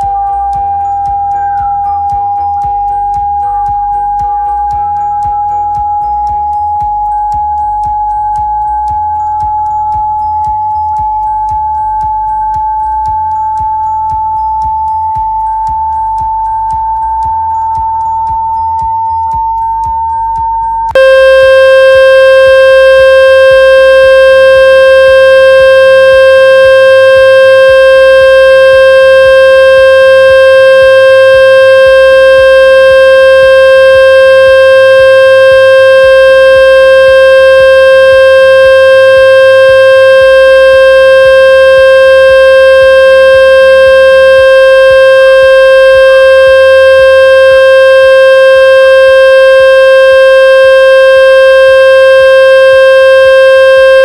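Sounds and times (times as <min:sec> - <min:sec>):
electronic pure tone: 0:00.0 - 0:54.0
low buzzy electronic tone: 0:00.0 - 0:54.0.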